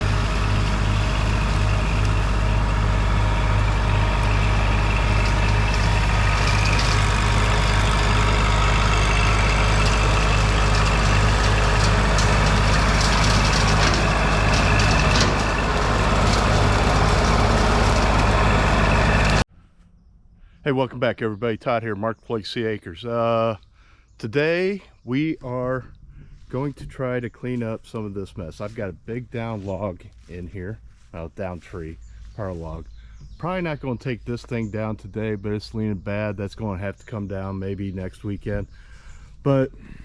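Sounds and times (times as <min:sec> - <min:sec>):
diesel tractor engine running: 0:00.0 - 0:19.5, 0:24.4 - 0:40.0.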